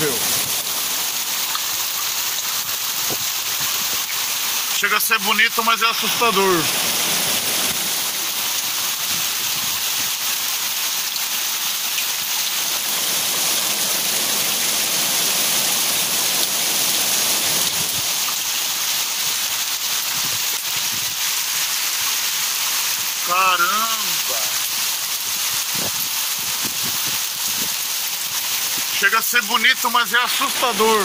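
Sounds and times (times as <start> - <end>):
hail and rain falling: 0.0 - 31.0.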